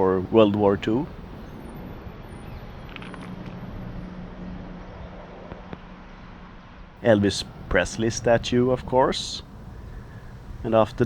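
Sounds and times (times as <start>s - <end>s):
low engine hum: 0.0s - 5.1s, 7.0s - 11.0s
street traffic rumble: 0.0s - 11.0s.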